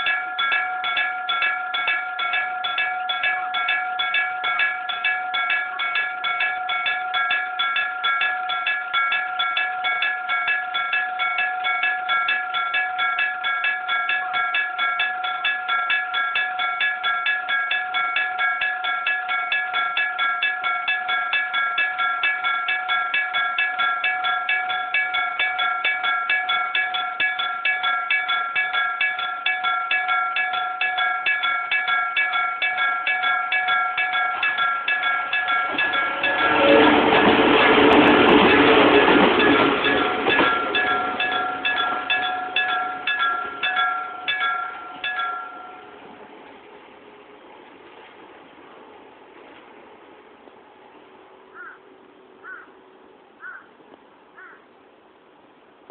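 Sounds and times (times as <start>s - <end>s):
level crossing warning bell: 0.0s - 47.1s.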